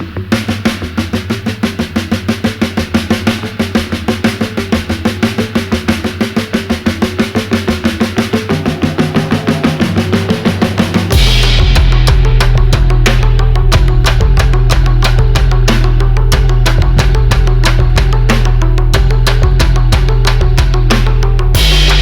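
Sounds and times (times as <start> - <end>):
fast drumming music with bass: 0.0 - 22.0.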